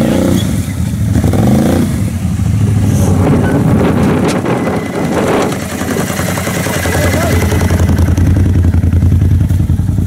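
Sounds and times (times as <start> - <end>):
quad bike engines revving: 0.0 - 10.0.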